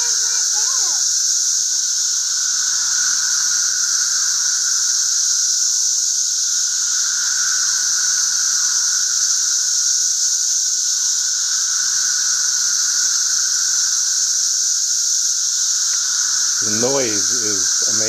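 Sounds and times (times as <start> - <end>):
cicadas singing: 0.0 - 18.0.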